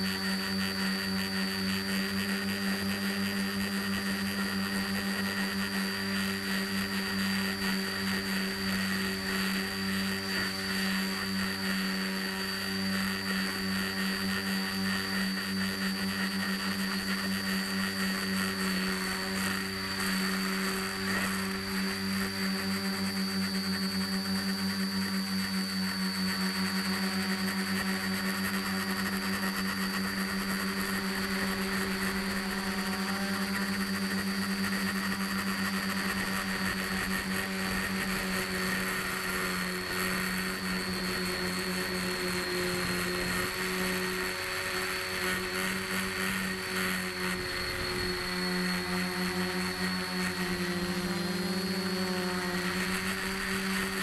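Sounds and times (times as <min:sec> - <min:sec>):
quadcopter motors buzzing: 0:00.0 - 0:54.0.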